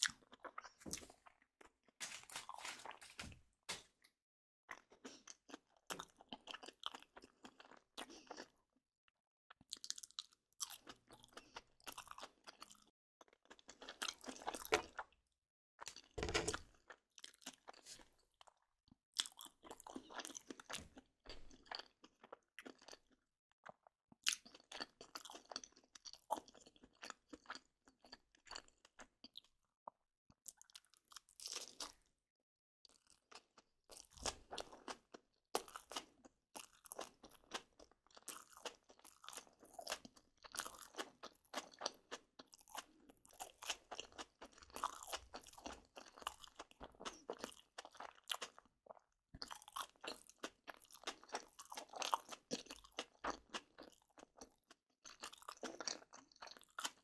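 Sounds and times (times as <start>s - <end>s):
crunching food being chewed: 0.0s - 4.1s, 4.7s - 8.7s, 9.5s - 15.2s, 15.8s - 32.1s, 32.9s - 57.0s.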